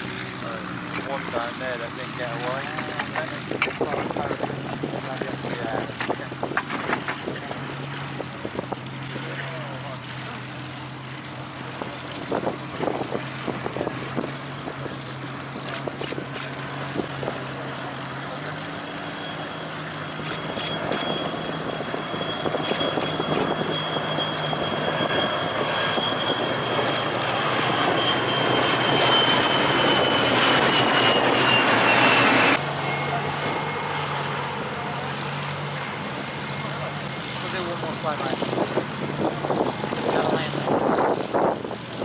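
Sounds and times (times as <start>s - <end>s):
high aircraft whine: 0.0s - 42.0s
propeller aircraft engines droning: 0.0s - 42.0s.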